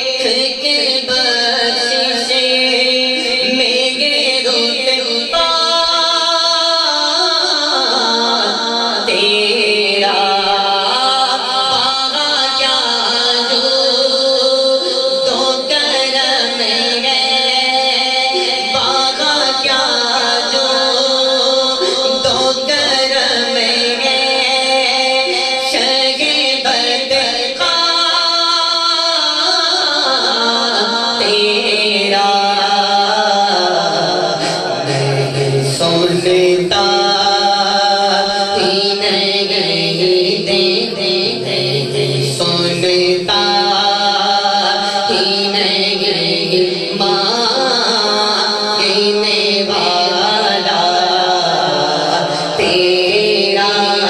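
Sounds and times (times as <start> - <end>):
man singing into microphone: 0.0 - 54.0.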